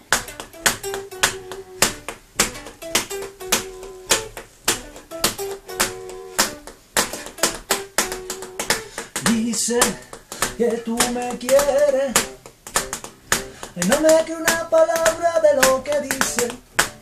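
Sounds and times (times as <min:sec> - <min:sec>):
electric guitar: 0:00.0 - 0:17.0
rhythmic percussive hits: 0:00.0 - 0:17.0.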